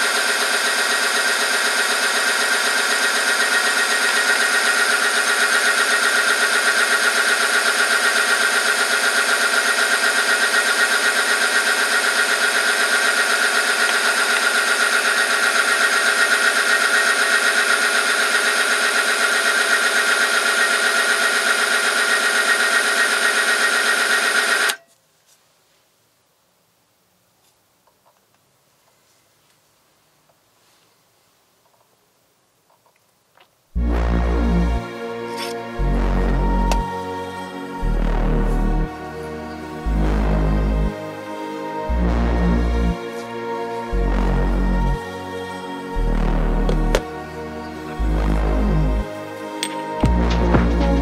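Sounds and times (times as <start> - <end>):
machine motor whine: 0.0 - 24.8, 33.8 - 51.0.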